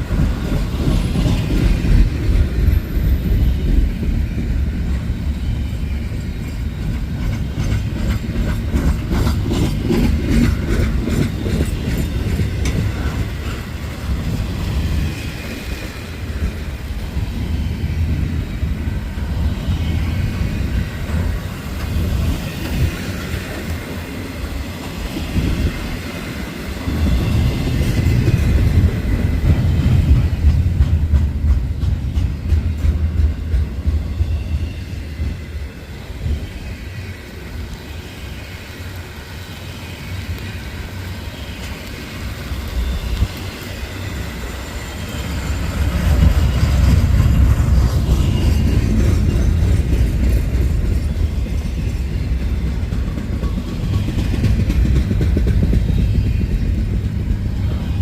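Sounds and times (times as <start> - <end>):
freight train rumbling past: 0.0 - 58.0
wheels clickety-clack on rails: 0.0 - 58.0.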